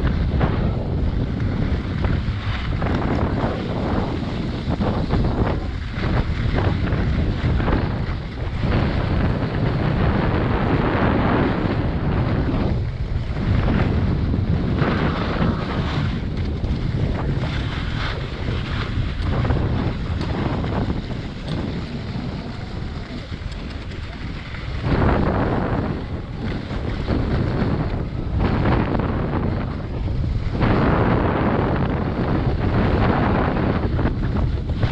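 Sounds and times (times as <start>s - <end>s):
skis sliding over snow: 0.0s - 34.9s
wind buffeting microphone: 0.0s - 34.9s.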